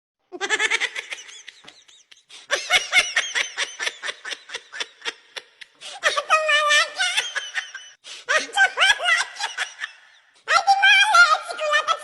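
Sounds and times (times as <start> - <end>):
high-pitched laughter: 0.3 - 12.0.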